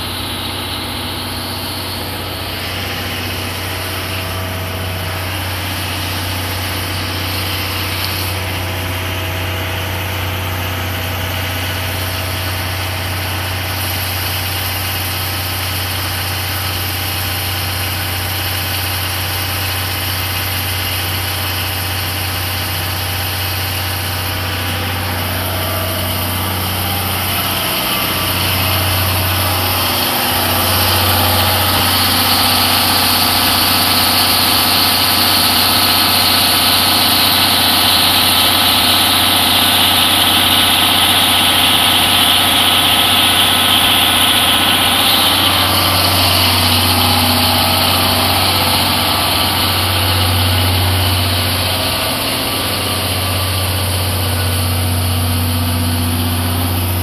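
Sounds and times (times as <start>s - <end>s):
diesel generator humming: 0.0s - 57.0s.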